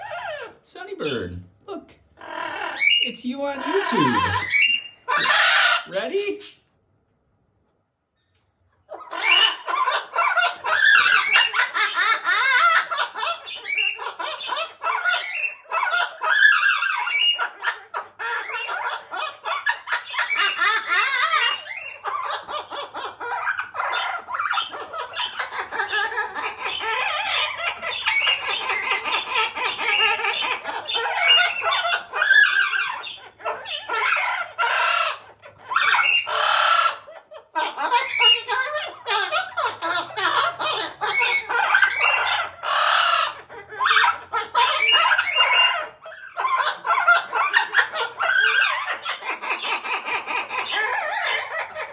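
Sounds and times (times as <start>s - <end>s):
parrot squawking and chattering: 0.0s - 6.8s, 8.8s - 51.9s.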